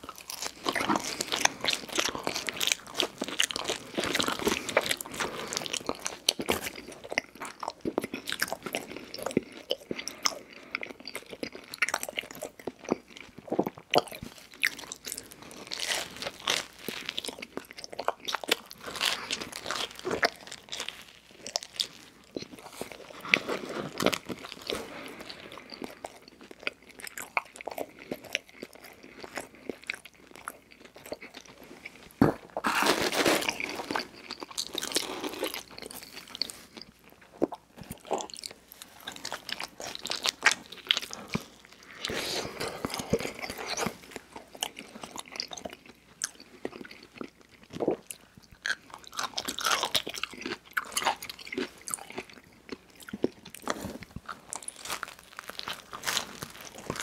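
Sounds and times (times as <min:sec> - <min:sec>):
crunching crust: 0:00.0 - 0:57.0
person chewing pizza: 0:00.0 - 0:57.0.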